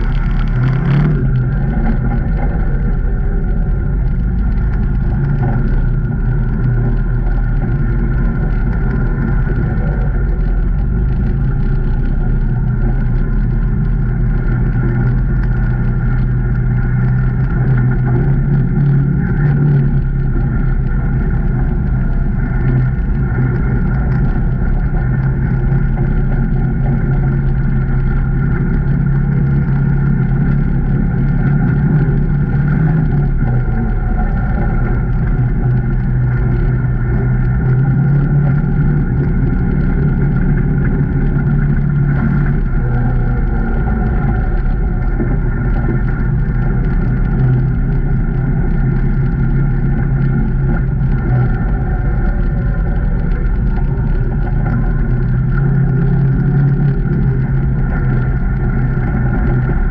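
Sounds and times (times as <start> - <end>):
off-road vehicle engine droning: 0.0 - 59.9.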